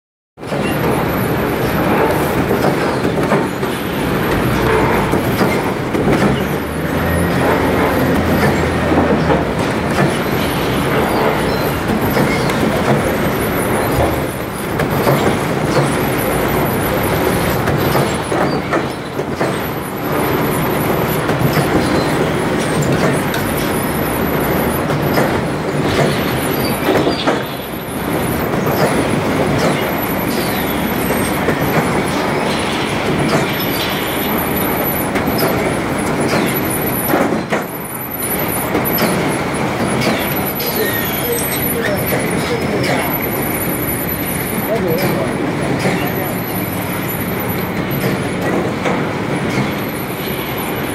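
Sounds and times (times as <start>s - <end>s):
machine mechanical din: 0.4s - 50.9s.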